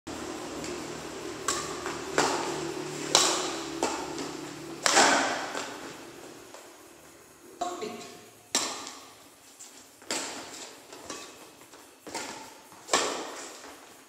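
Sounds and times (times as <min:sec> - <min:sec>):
rackets hitting shuttlecock: 0:00.1 - 0:06.2, 0:07.6 - 0:09.2, 0:10.1 - 0:13.7.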